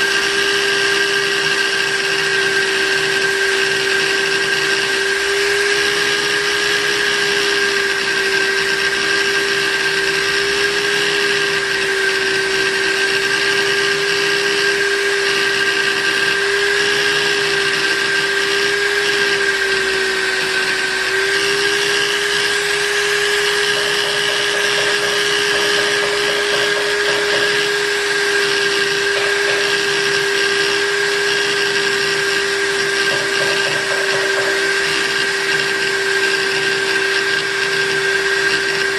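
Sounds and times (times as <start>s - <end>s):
buffing machine motor whining: 0.0s - 38.9s.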